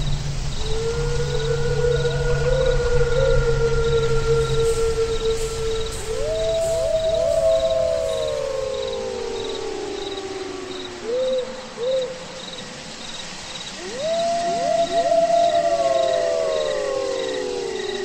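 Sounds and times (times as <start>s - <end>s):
crickets chirping: 0.0s - 18.0s
long sliding howls: 0.0s - 18.0s.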